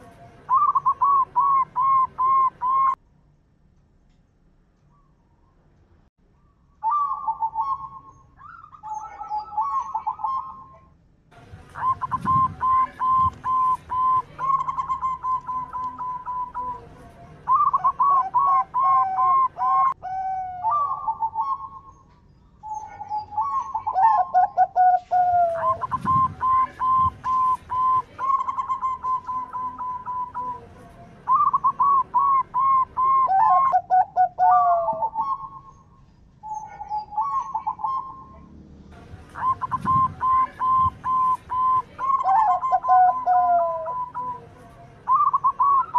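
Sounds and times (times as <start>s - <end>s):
dove cooing: 0.0s - 3.0s, 6.8s - 10.8s, 11.7s - 22.0s, 22.6s - 30.7s, 31.3s - 35.8s, 36.4s - 38.4s, 39.2s - 45.9s.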